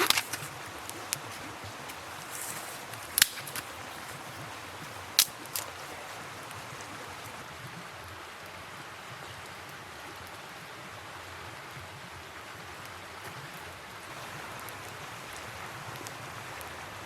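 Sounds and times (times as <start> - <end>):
river running: 0.0 - 17.0.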